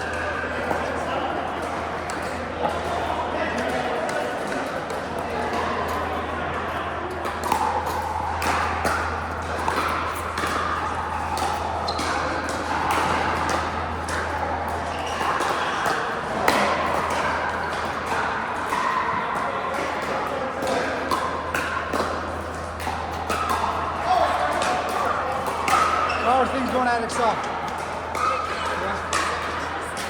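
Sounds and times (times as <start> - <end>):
background chatter: 0.0 - 30.0.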